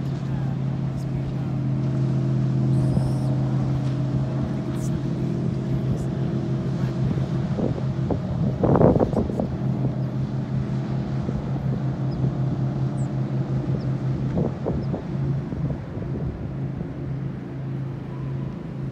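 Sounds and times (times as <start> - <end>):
speedboat engine droning: 0.0 - 18.9
wind rush on microphone: 1.4 - 17.3.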